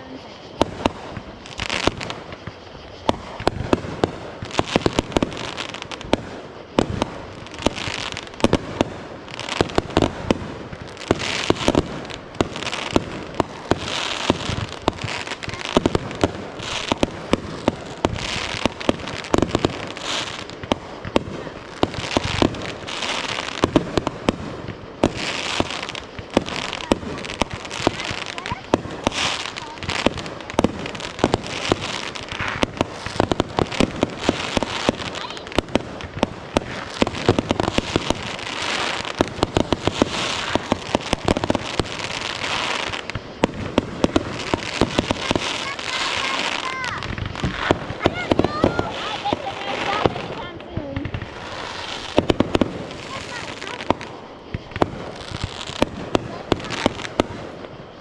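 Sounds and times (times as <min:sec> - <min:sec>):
fireworks bangs and pops: 0:00.0 - 0:58.0
fireworks crackling: 0:00.0 - 0:58.0.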